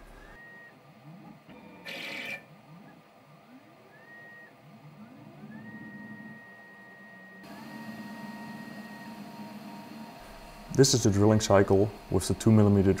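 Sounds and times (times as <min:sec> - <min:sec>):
lathe motors whining: 0:00.0 - 0:13.0.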